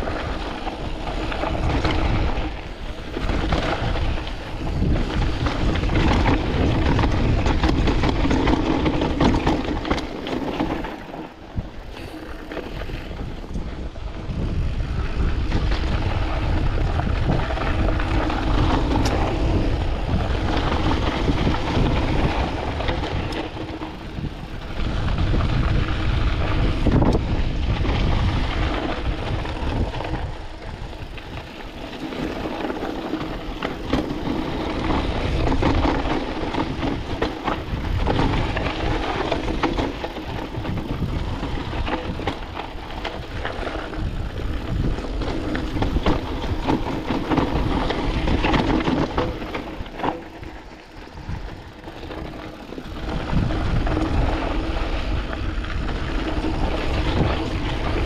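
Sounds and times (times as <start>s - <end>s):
bike chain and frame clattering: 0.0s - 58.0s
bike tyres crunching over stones: 0.0s - 58.0s
wind buffeting microphone: 0.0s - 58.0s.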